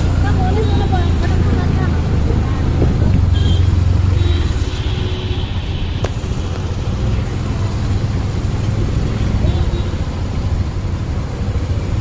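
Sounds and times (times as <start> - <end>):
auto-rickshaw engine running: 0.0 - 12.0
road and traffic noise: 0.0 - 12.0.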